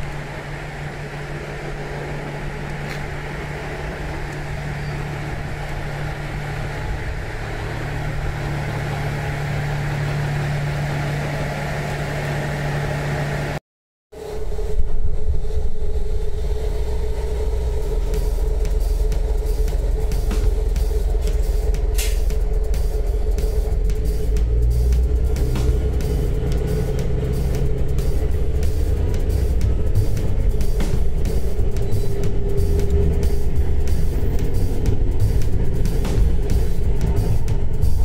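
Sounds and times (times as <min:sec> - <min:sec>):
diesel engine idling: 0:00.0 - 0:13.6, 0:14.2 - 0:38.0
deep engine rumble: 0:00.0 - 0:38.0.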